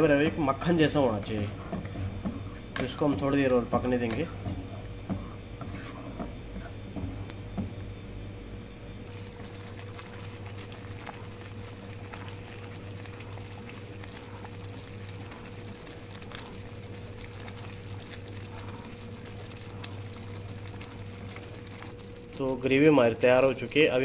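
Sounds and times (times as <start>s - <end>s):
gravy simmering and bubbling: 0.0s - 24.0s
steady low hum: 0.0s - 24.0s.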